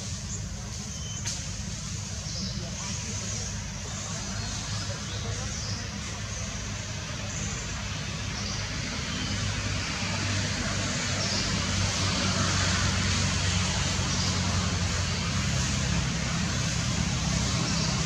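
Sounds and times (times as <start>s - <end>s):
constant hiss: 0.0s - 18.0s
engine running low rumble: 0.0s - 18.0s.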